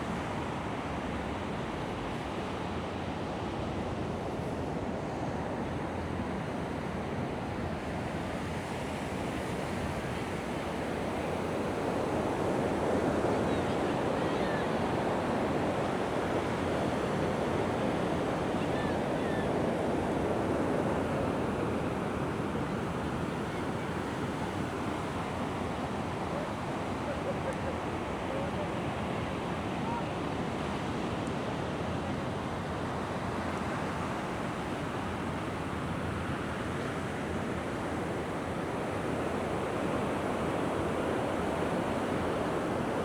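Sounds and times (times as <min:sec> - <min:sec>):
waves washing onto beach: 0:06.8 - 0:43.0.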